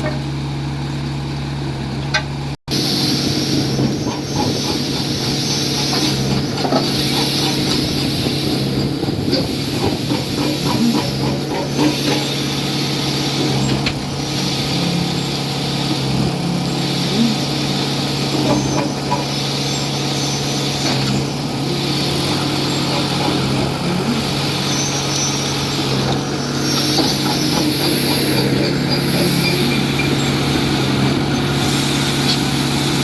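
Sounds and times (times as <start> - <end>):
pump engine running: 0.0 - 33.0
hiss: 2.7 - 33.0.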